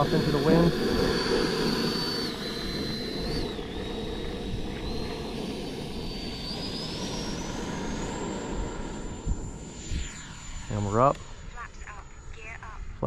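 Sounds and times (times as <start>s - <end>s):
electric jet fan whining: 0.0s - 12.4s
steady rushing noise: 0.0s - 13.0s.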